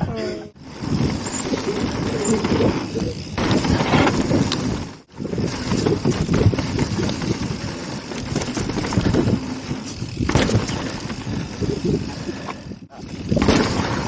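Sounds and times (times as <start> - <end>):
bike rattling: 0.0 - 14.0
wind buffeting microphone: 0.0 - 14.0
bike tyres rumbling on dirt: 0.2 - 14.0.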